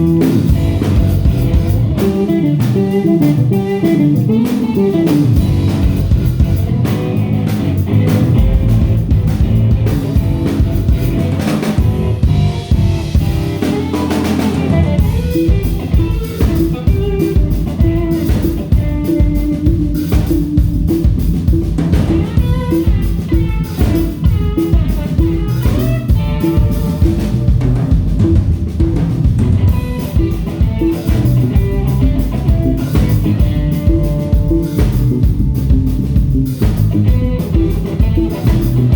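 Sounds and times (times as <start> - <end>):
bass: 0.0 - 38.9
drum kit with steady beat: 0.0 - 38.9
guitar playing: 0.0 - 38.9.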